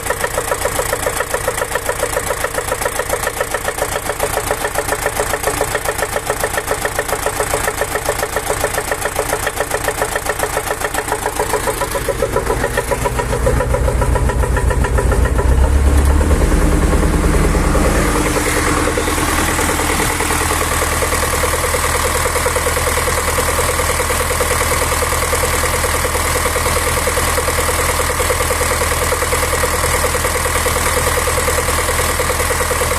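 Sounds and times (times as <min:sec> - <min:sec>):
diesel tractor engine knocking: 0:00.0 - 0:32.9.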